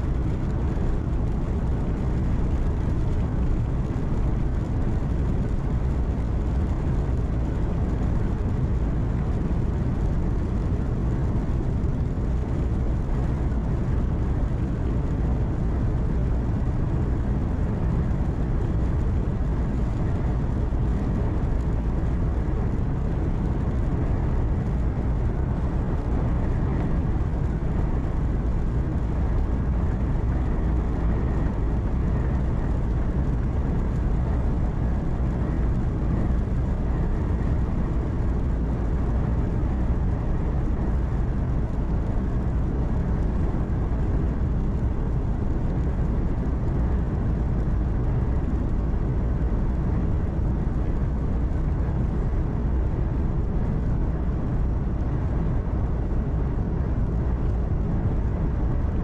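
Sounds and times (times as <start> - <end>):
tyre and road noise: 0.0 - 58.5.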